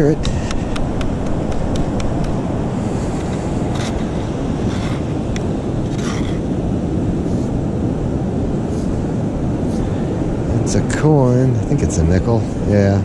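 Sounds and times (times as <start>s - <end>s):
heavy surf: 0.0s - 13.0s
wind: 0.0s - 13.0s.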